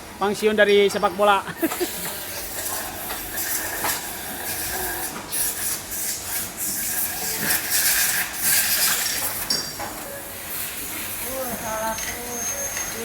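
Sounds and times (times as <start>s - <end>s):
machinery hissing: 1.5s - 13.0s.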